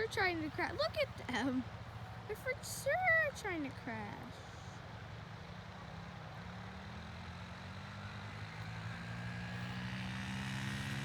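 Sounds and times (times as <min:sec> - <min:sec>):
off-road vehicle engine: 0:00.0 - 0:11.0.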